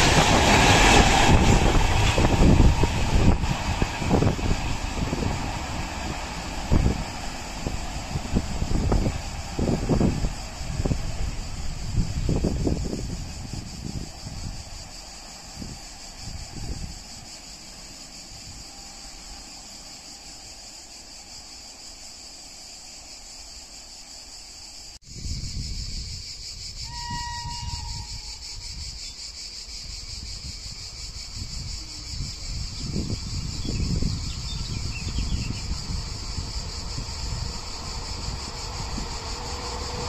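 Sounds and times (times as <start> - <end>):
cicadas buzzing: 0.0 - 40.0
train rumble: 0.0 - 40.0.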